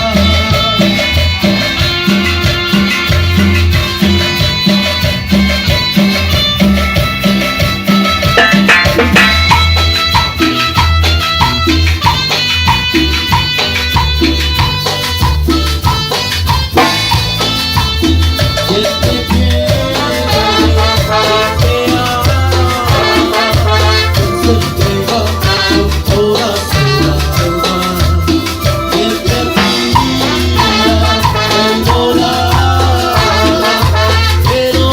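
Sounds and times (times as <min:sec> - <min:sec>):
latin dance music: 0:00.0 - 0:34.9.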